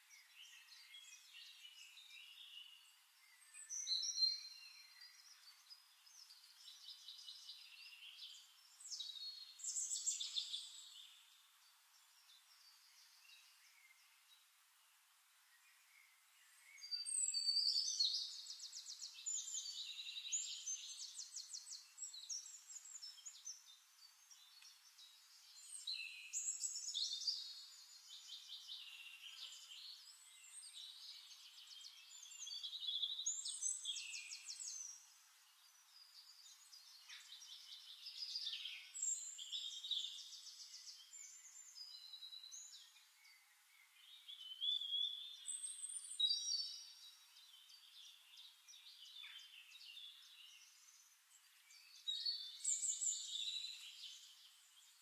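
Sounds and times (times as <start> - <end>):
songbird trilling and chirping: 0.1 - 14.4, 15.7 - 55.0.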